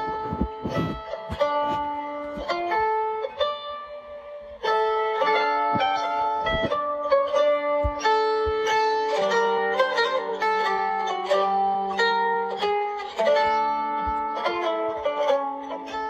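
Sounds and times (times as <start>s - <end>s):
low thumps: 0.0s - 3.8s, 4.7s - 15.6s
plucked string melody: 0.0s - 16.0s.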